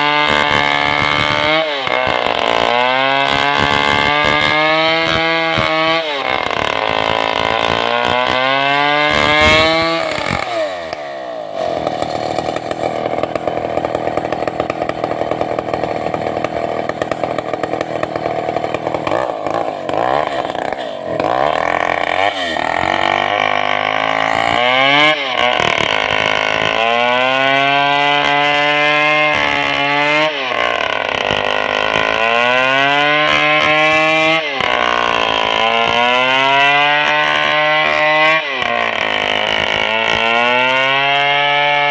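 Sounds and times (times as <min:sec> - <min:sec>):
chainsaw cutting a log: 0:00.0 - 0:41.9.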